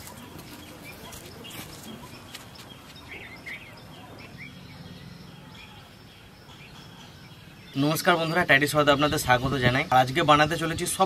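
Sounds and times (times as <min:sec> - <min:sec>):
birds chirping: 0:00.0 - 0:11.0
outdoor background hiss: 0:00.0 - 0:11.0.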